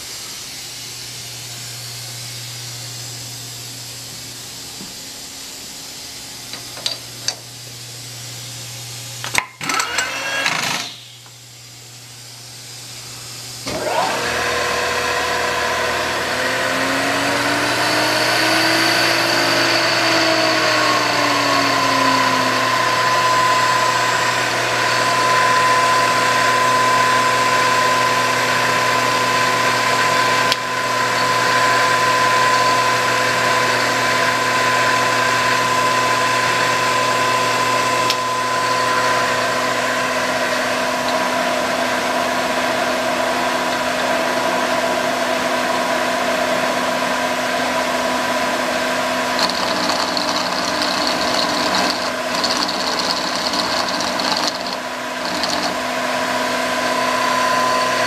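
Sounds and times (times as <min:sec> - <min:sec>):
mill spindle motor whine: 0:00.0 - 0:58.0.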